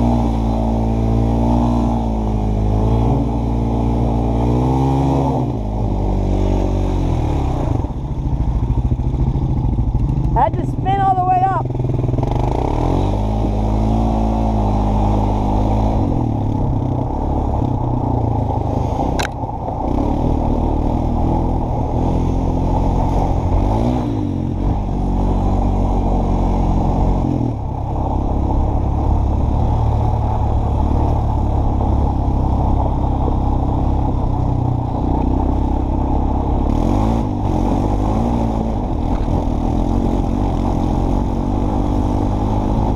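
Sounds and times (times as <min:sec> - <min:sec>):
quad bike engine revving: 0:00.0 - 0:42.9.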